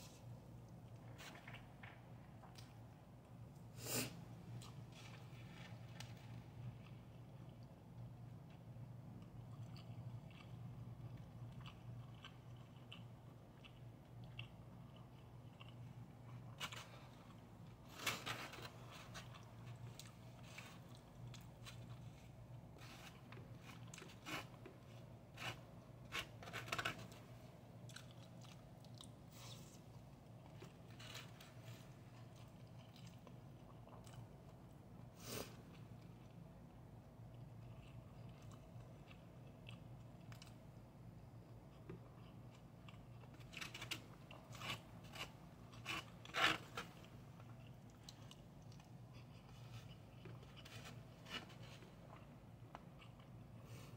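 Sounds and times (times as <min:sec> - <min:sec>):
faint chewing: 0:04.4 - 0:36.5, 0:37.1 - 0:40.7, 0:41.4 - 0:53.9.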